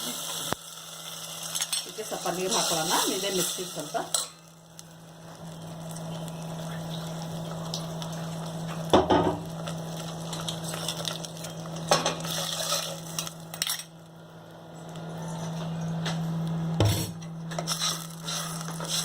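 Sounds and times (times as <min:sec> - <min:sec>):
light sizzling: 0:00.0 - 0:19.0.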